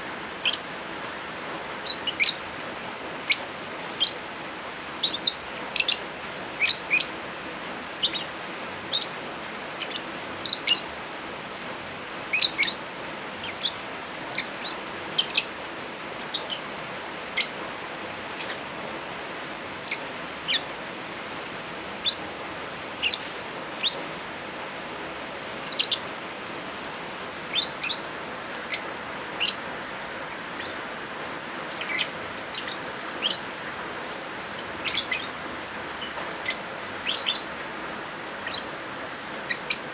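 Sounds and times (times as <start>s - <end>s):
lovebirds chirping: 0.0s - 11.0s, 12.2s - 18.7s, 19.8s - 20.7s, 21.9s - 24.1s, 25.6s - 26.1s, 27.3s - 39.9s
rain hissing: 0.0s - 39.9s.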